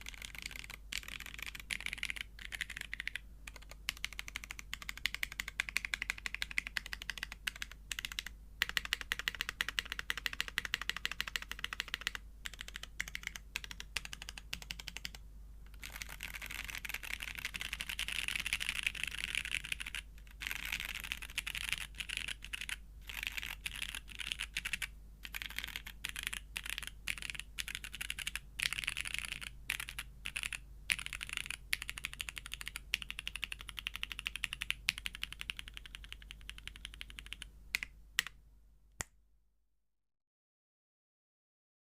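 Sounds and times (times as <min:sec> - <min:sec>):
mechanical keyboard key presses: 0:00.0 - 0:15.2, 0:15.8 - 0:38.3.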